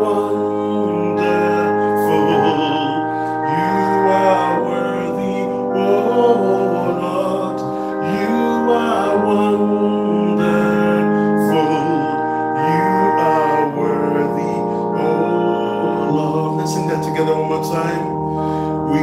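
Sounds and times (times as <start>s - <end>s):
man singing: 0.0s - 19.0s
slow electronic keyboard chords: 0.0s - 19.0s.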